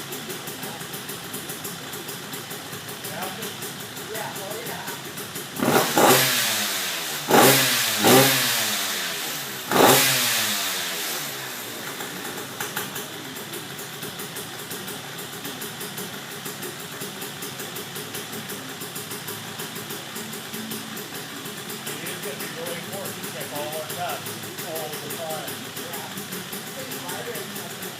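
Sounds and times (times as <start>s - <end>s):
two-stroke engine revving and idling: 0.0s - 27.9s.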